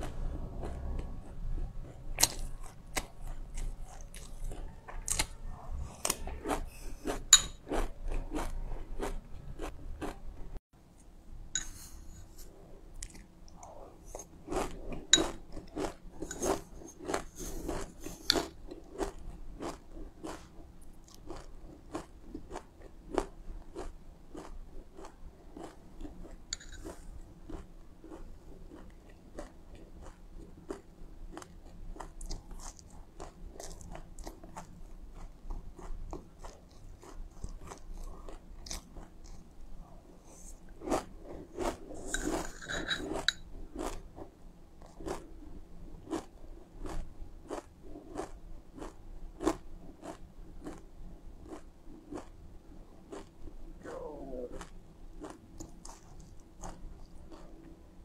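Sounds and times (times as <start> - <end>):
crunchy chewing of seeds: 0.0 - 10.2, 11.7 - 57.8.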